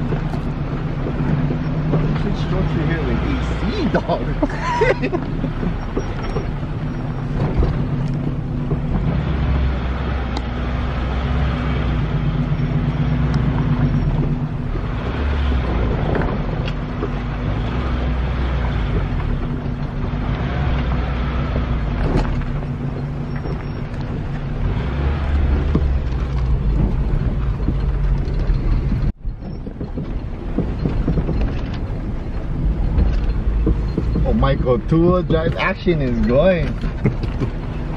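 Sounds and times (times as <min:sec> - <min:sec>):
car engine running: 0:00.0 - 0:37.9
tyres crunching over rocky track: 0:00.0 - 0:37.9.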